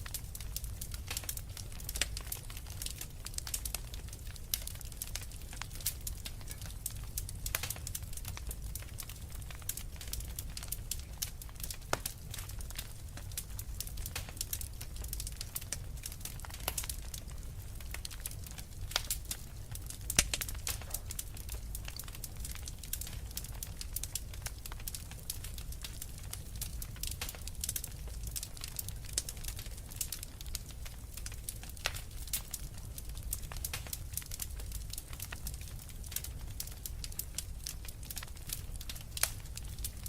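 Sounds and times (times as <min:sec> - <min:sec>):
logs crackling and popping: 0:00.0 - 0:40.0
low rumble of flames: 0:00.0 - 0:40.0.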